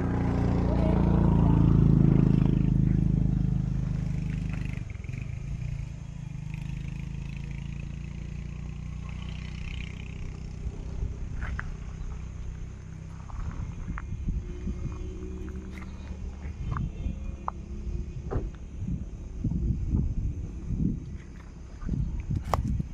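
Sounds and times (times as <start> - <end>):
vehicle engine rumble: 0.0 - 22.9.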